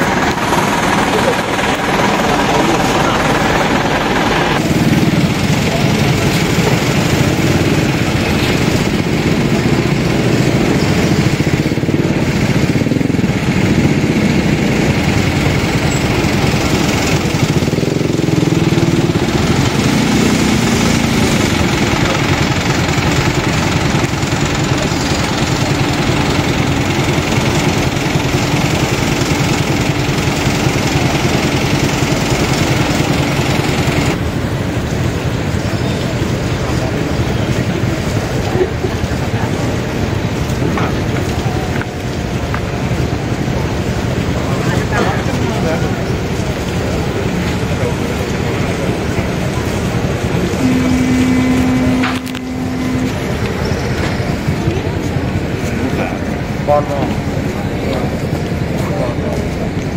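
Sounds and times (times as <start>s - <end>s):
heavy diesel engines idling: 0.0s - 59.9s.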